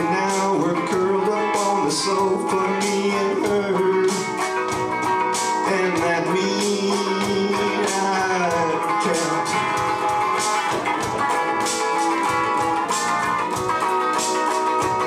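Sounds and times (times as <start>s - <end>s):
country song on electric guitar: 0.0s - 15.0s.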